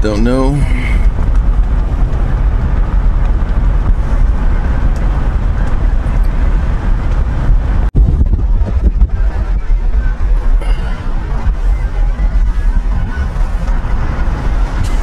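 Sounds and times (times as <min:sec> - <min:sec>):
car engine and tyres rumbling: 0:00.0 - 0:15.0
wind buffeting microphone: 0:00.0 - 0:15.0.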